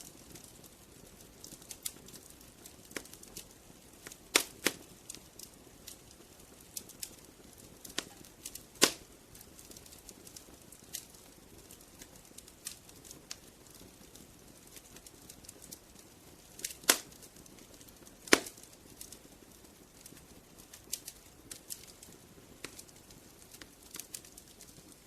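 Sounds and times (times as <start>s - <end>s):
low fire hiss: 0.0s - 25.0s
wood fire pops and snaps: 0.0s - 25.0s.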